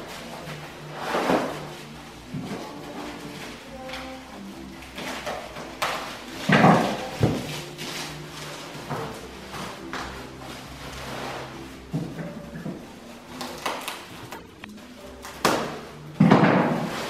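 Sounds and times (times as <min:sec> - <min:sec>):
faint music with held notes: 0:00.0 - 0:17.0
plastic wrapping crinkling: 0:00.0 - 0:17.0.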